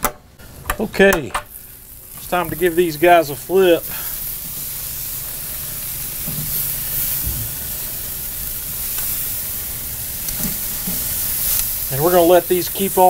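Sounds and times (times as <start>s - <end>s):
chicken sizzling on grill: 1.5s - 13.0s.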